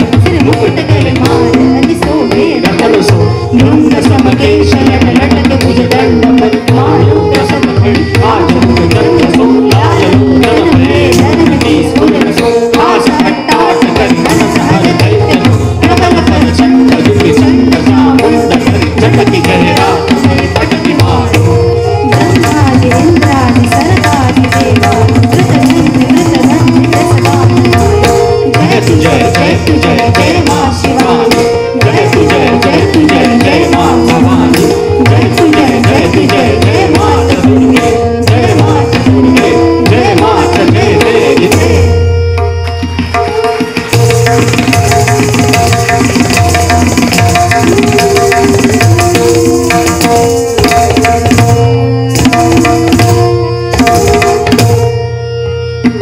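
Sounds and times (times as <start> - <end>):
harmonium and sarangi melody: 0.0 - 56.0
tabla playing: 0.0 - 56.0.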